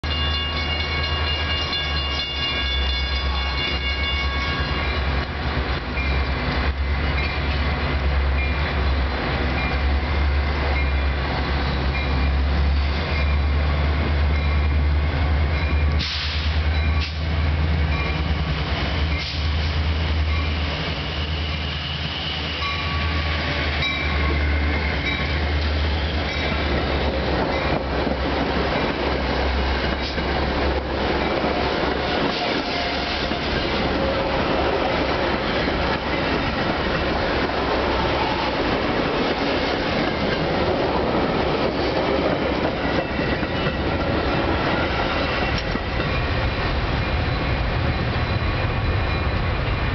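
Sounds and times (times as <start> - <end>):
diesel locomotive drone: 0.0 - 49.9
rumble of passing train cars: 0.0 - 49.9.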